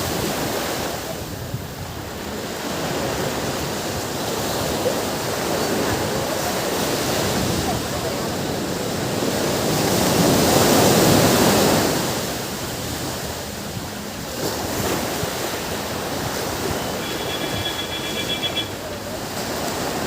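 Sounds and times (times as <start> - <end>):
ocean waves on a beach: 0.0 - 20.0.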